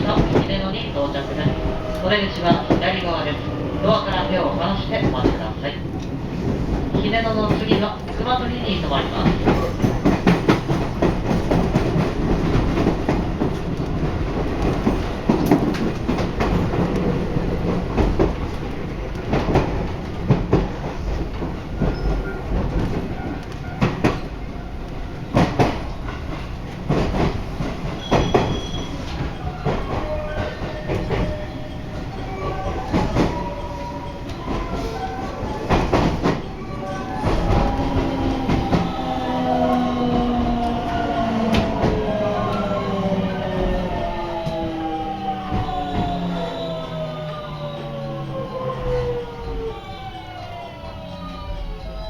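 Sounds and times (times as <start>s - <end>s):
wheels clacking over rail joints: 0.0s - 51.4s
train interior rumble: 0.0s - 52.0s.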